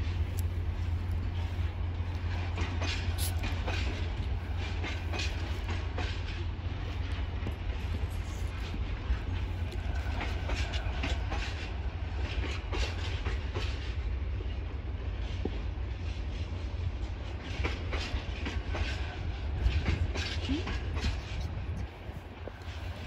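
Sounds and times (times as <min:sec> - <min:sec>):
wheels clicking over rail joints: 0:00.0 - 0:14.0, 0:15.2 - 0:23.0
freight train rumble: 0:00.0 - 0:23.0.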